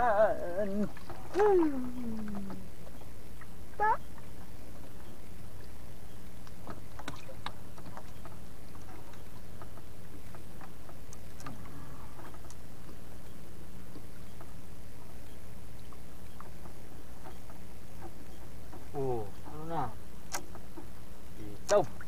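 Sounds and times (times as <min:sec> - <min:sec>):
boat engine low hum: 0:00.0 - 0:22.0.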